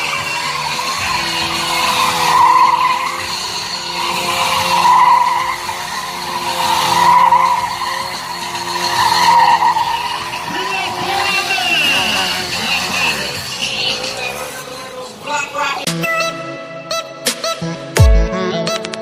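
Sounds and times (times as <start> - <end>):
motorcycle engine hum: 0.0 - 15.9
motorcycle tyre squealing: 0.0 - 17.2.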